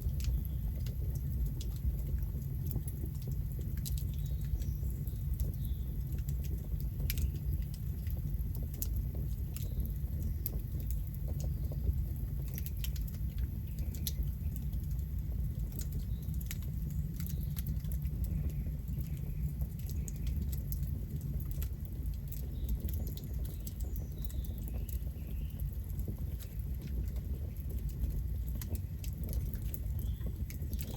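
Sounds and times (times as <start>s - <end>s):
campfire crackling: 0.0s - 30.9s.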